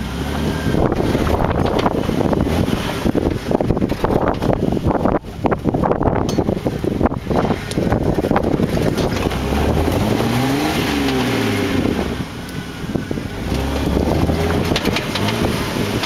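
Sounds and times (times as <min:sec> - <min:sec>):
car engine revving: 0:00.0 - 0:16.0
wind noise on microphone: 0:00.0 - 0:16.0.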